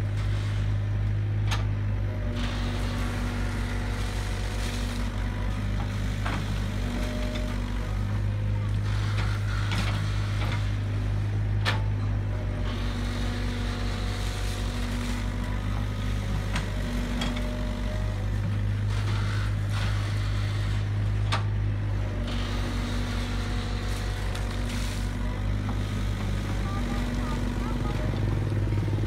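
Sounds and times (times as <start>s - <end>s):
excavator diesel engine droning: 0.0s - 29.0s.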